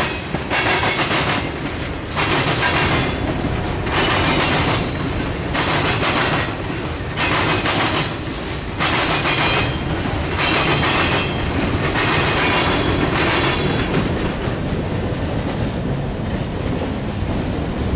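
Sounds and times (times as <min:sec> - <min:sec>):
wheel on rail clatter: 0:00.0 - 0:17.9.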